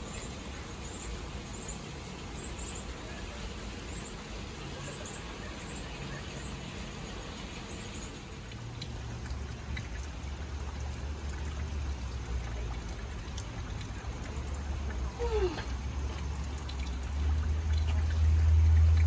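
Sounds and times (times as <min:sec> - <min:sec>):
fountain water trickling and splashing: 0:00.0 - 0:19.0.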